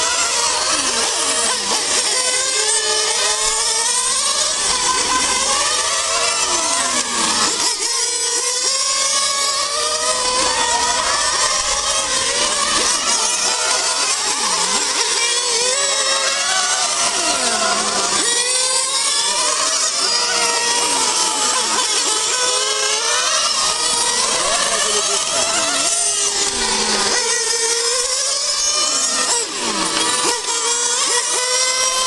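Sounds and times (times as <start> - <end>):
model race car engines whining: 0.0 - 32.0.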